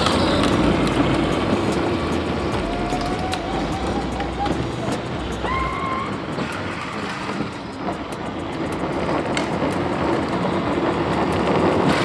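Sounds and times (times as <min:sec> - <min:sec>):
toy quad bike motor running: 0:00.0 - 0:12.0.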